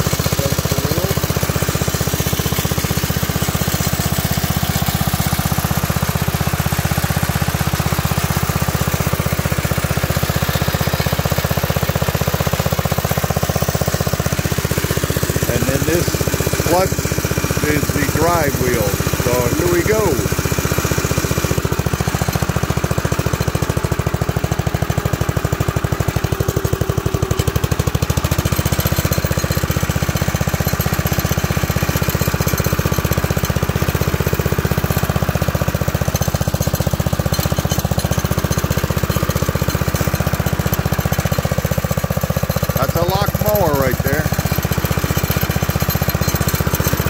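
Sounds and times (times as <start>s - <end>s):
mower engine running: 0.0s - 47.0s
mower reels cutting grass: 0.0s - 47.0s.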